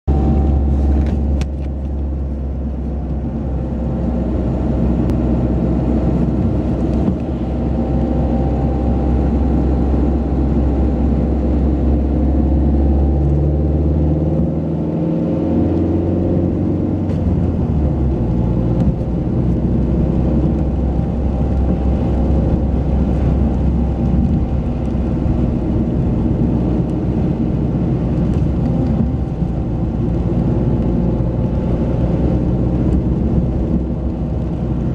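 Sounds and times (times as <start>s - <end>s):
car engine running: 0.0s - 34.9s
tyre road noise: 0.0s - 34.9s.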